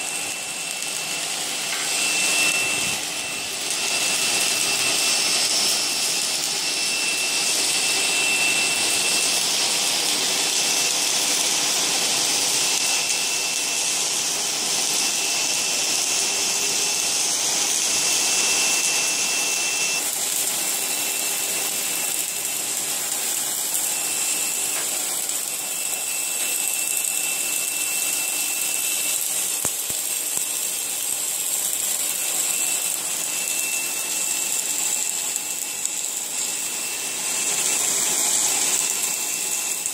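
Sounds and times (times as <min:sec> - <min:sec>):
thin high whine: 0:00.0 - 0:39.9
welding machine hiss: 0:00.0 - 0:39.9.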